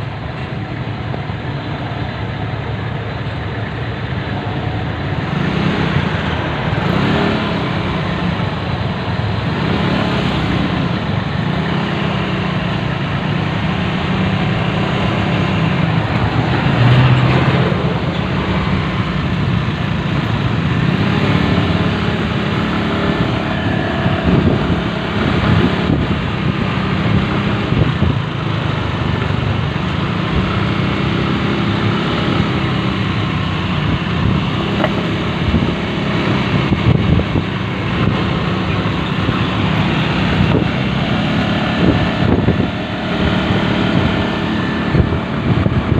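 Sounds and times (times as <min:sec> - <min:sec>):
deep engine sound: 0:00.0 - 0:45.9
motorcycle engine running: 0:00.0 - 0:45.9
other vehicle engines: 0:00.0 - 0:45.9
road noise: 0:00.0 - 0:45.9.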